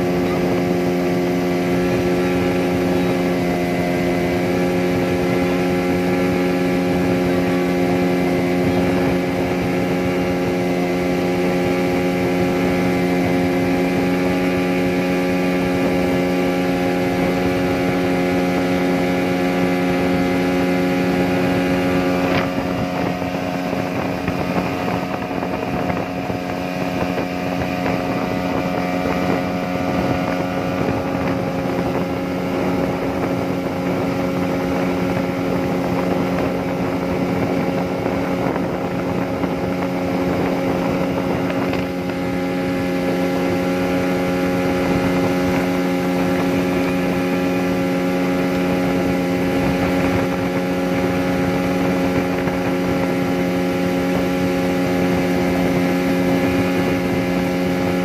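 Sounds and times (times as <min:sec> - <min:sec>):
speedboat engine running: 0:00.0 - 0:58.0
wind and water rushing: 0:00.0 - 0:58.0.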